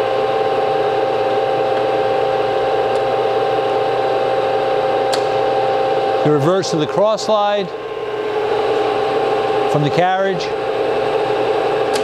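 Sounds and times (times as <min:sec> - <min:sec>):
lathe whining: 0:00.0 - 0:12.0.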